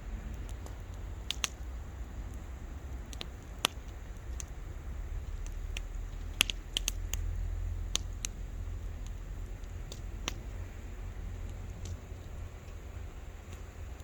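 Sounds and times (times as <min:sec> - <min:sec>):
bonfire crackling and popping: 0:00.0 - 0:14.0
low rumble: 0:00.0 - 0:14.0.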